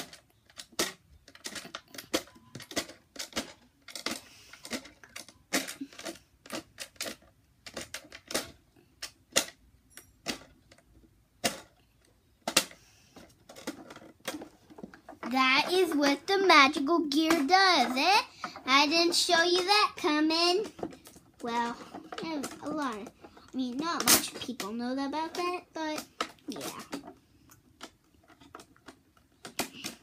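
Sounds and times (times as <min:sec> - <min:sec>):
plastic toy gear clicking: 0:00.0 - 0:30.0.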